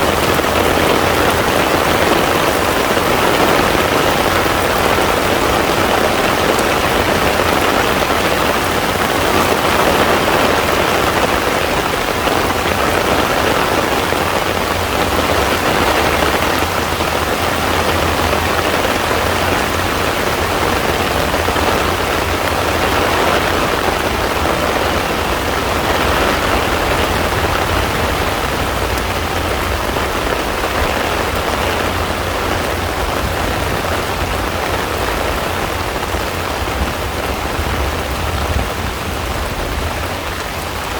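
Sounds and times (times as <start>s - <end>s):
heavy rain on pond water: 0.0s - 40.9s.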